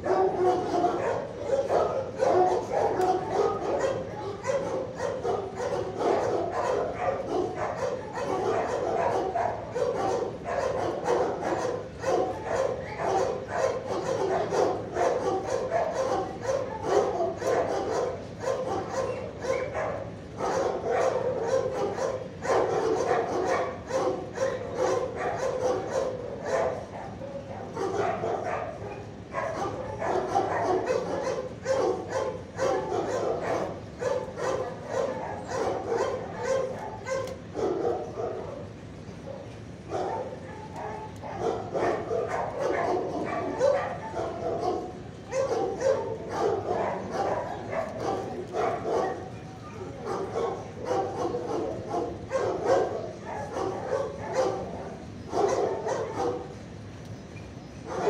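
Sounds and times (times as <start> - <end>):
dogs barking and yipping: 0.0 - 58.0.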